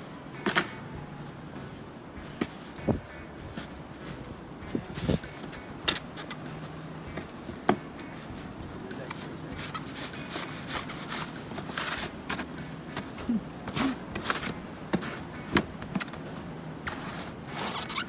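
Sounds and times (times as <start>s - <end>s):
steady low hum: 0.0s - 18.0s
footsteps and shuffling scuffs: 0.4s - 18.0s.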